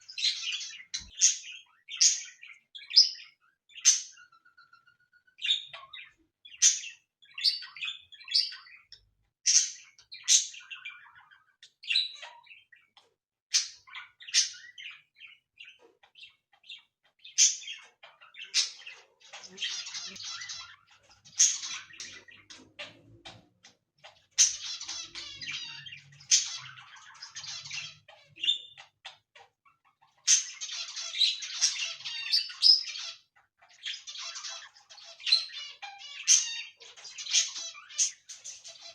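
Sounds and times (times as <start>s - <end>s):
cockatiels chirping and calling: 0.0s - 38.9s.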